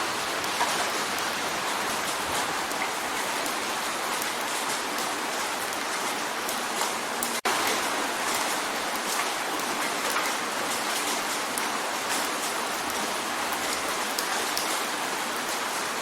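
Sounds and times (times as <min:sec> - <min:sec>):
rain drumming on a window: 0:00.0 - 0:16.0.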